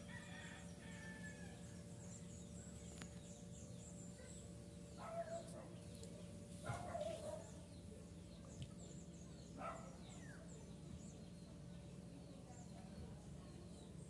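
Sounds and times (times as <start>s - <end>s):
faint high bird chirps: 0.1s - 14.0s.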